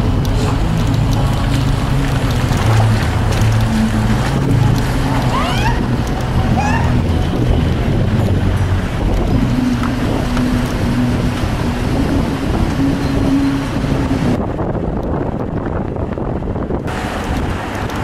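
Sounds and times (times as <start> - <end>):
car engine hum: 0.0 - 18.0
road rumble: 0.0 - 18.0
wind buffeting microphone: 0.0 - 18.0.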